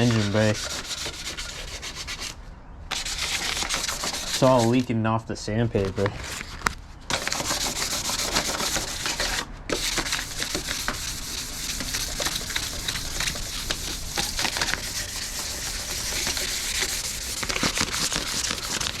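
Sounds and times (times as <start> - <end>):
sandpaper scrubbing metal: 0.0 - 4.8, 7.1 - 19.0.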